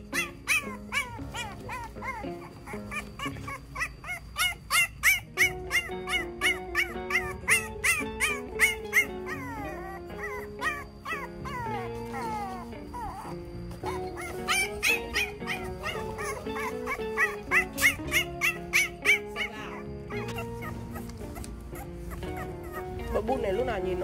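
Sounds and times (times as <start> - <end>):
background music with held chords: 0.0 - 24.0
puppies whining: 0.0 - 24.0
puppies yipping: 0.0 - 24.0.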